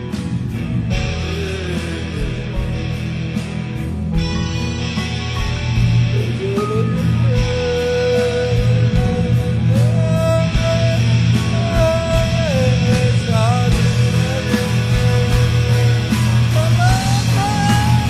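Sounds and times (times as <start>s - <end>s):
rock band playing: 0.0s - 18.0s
sliding lead melody: 0.0s - 18.0s.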